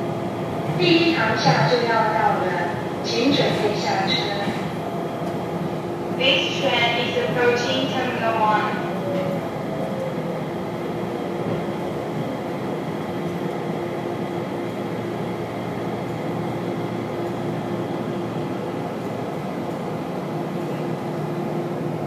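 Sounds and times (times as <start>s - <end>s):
train rumble from inside: 0.0s - 22.0s.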